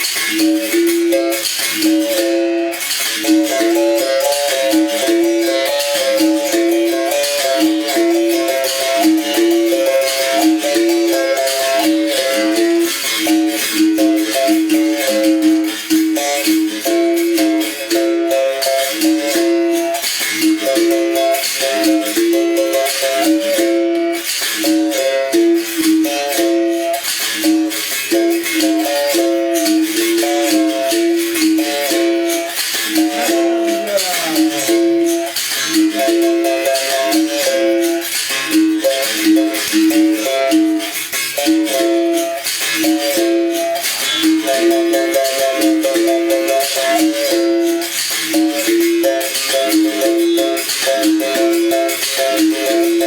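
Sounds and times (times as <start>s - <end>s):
berimbau struck wire notes: 0.0s - 53.0s.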